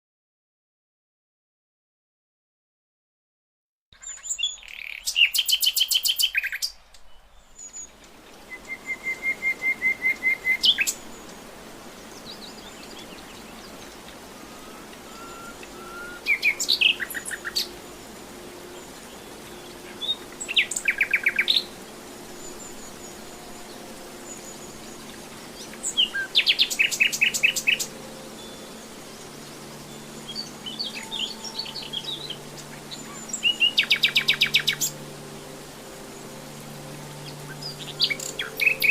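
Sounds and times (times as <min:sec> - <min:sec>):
nightingale singing: 0:04.0 - 0:38.9.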